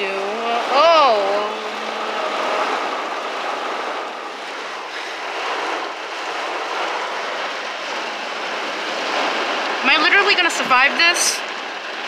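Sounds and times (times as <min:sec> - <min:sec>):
heavy rain on car roof: 0:00.0 - 0:12.0.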